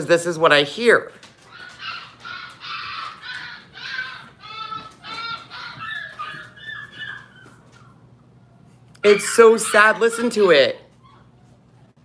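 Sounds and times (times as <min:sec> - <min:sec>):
puppies whining and crying: 0:01.4 - 0:12.0.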